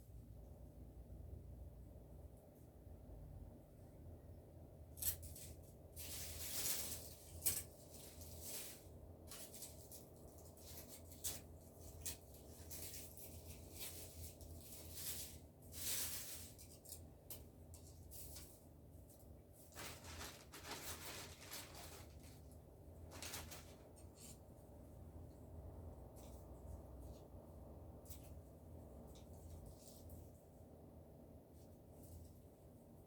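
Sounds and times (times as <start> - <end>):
rustling and handling noises: 4.8 - 33.0.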